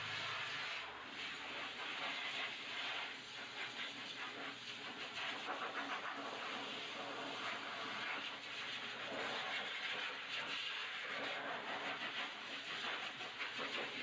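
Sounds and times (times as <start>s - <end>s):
dog blow dryer blowing air: 0.0s - 14.0s.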